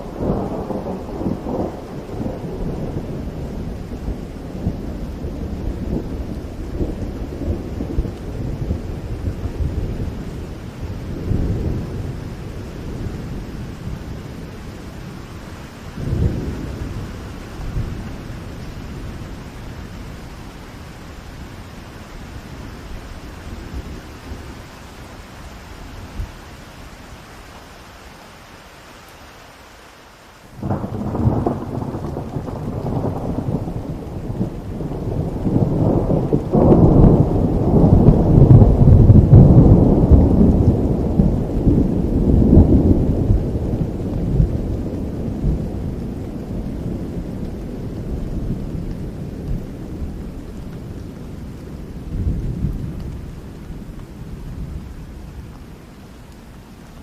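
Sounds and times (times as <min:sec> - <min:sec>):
rolling thunder: 0:00.0 - 0:20.6, 0:30.6 - 0:55.6
rain: 0:00.0 - 0:57.0.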